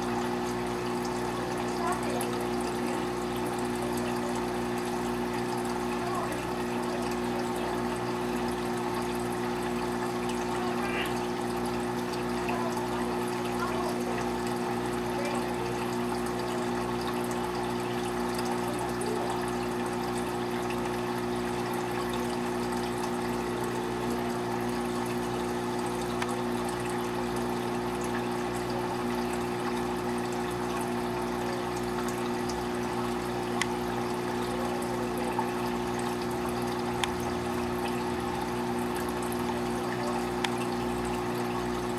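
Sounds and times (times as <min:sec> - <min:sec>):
aquarium pump humming: 0:00.0 - 0:41.9
trickling water: 0:00.0 - 0:41.9.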